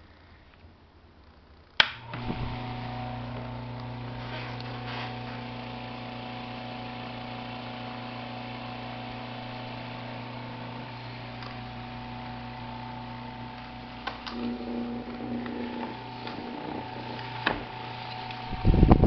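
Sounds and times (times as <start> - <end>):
fan motor humming: 1.8 - 19.0.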